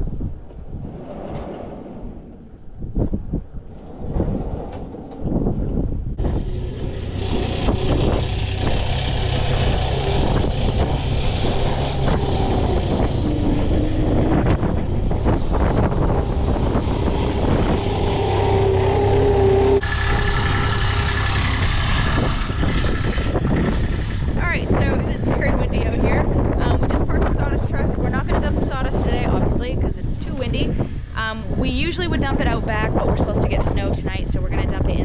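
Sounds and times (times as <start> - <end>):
loader engine humming and whining: 3.4 - 33.6.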